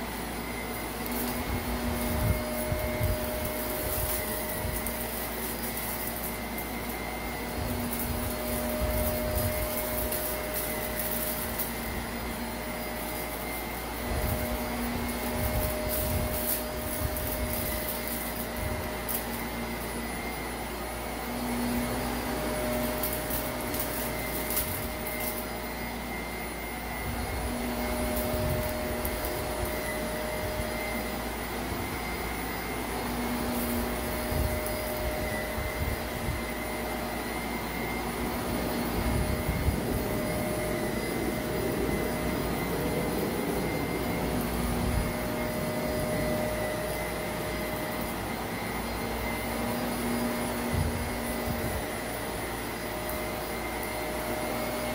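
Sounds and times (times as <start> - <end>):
grit crackling in vacuum: 0.0 - 54.9
vacuum cleaner on carpet: 0.0 - 54.9.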